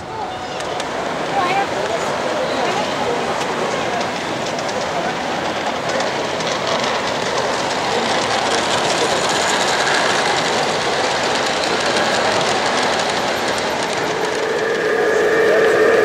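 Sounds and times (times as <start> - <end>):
wheels clicking over rail joints: 0.0 - 14.6
model train wheels rumbling on rail: 0.0 - 16.0.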